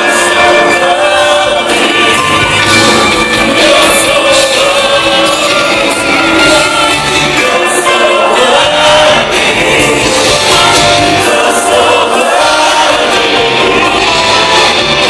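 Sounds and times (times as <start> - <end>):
live band with singers: 0.0 - 15.0.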